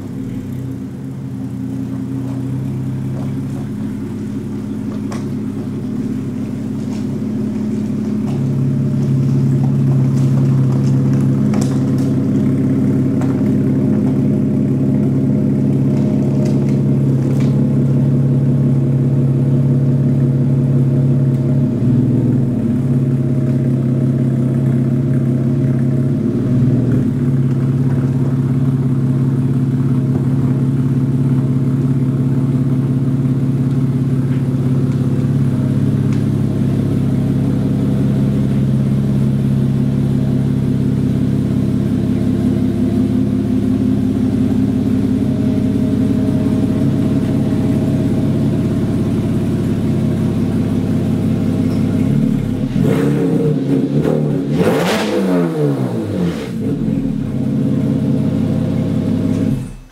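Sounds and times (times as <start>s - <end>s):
car engine running loud: 0.0s - 59.9s.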